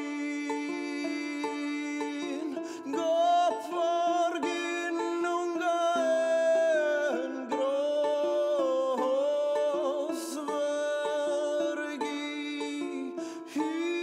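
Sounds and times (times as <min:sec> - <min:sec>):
plucked string instruments: 0:00.0 - 0:14.0.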